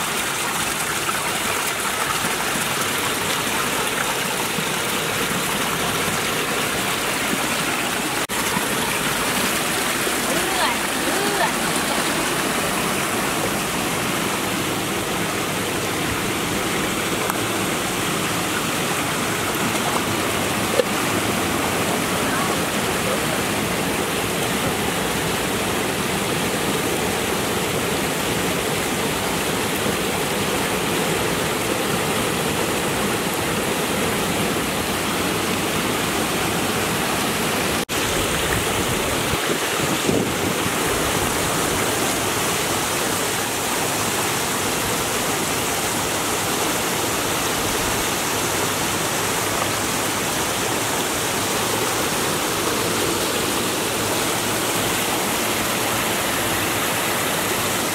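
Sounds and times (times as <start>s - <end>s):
stream splashing over rocks: 0.0s - 57.9s.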